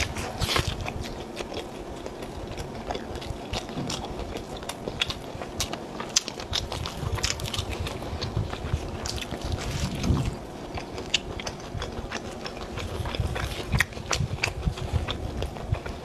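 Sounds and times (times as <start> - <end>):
chewing crunchy fried food: 0.0 - 16.0.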